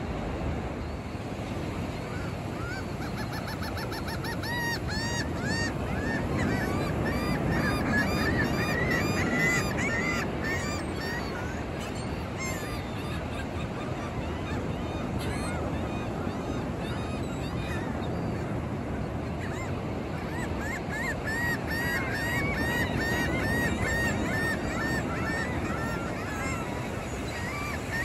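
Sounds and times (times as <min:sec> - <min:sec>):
steady surf: 0:00.0 - 0:28.0
gulls calling: 0:01.0 - 0:28.0.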